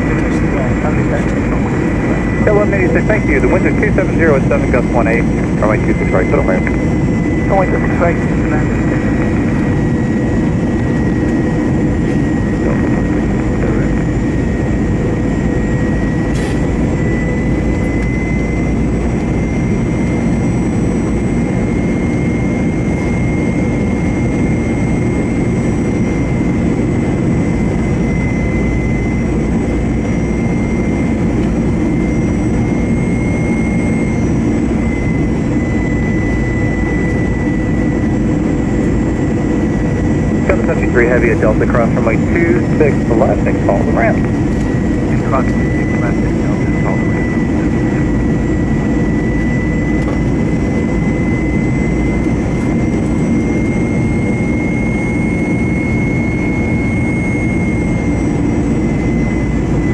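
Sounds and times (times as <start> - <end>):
high jet fan whine: 0.0 - 59.9
jet engine rumble in cabin: 0.0 - 59.9.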